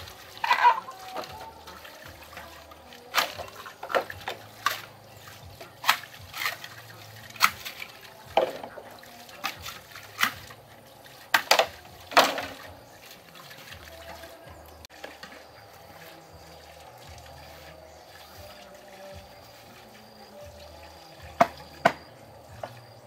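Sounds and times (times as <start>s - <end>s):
water splashing: 0.0s - 23.0s.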